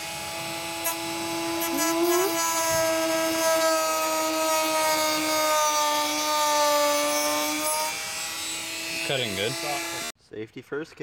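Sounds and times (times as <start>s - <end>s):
rotary tool motor whine: 0.0s - 10.1s.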